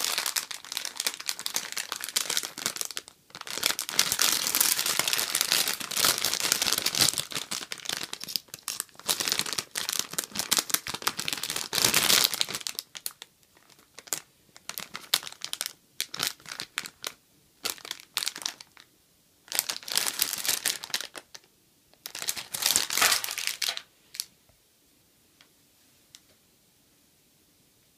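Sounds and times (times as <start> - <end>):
plastic bag crinkling: 0.0 - 18.9, 19.5 - 24.3.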